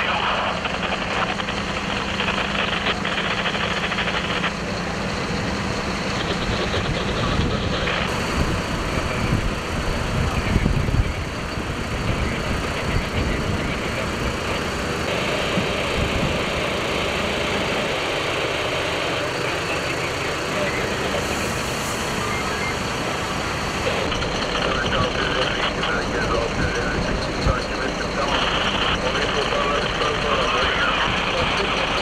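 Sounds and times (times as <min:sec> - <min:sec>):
constant rushing noise: 0:00.0 - 0:32.0
diesel engine running: 0:00.0 - 0:32.0.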